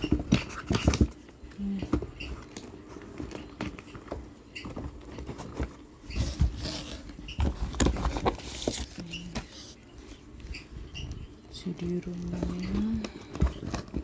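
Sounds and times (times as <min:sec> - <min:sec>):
plastic and paper rustling: 0:00.0 - 0:14.0.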